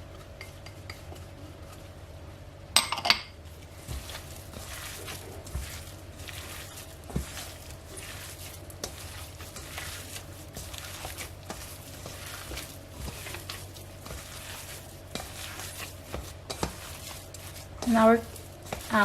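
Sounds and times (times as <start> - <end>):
steady low hum: 0.0 - 19.0
hands squishing minced meat: 3.5 - 19.0.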